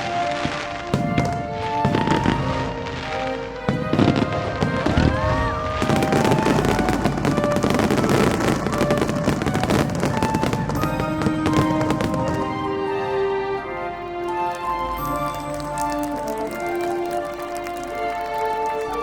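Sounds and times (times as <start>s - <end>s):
fireworks rising whistles: 0.0s - 13.3s, 14.1s - 18.6s
fireworks bangs and crackling: 0.0s - 13.5s, 14.2s - 19.0s
music playing: 0.0s - 19.0s.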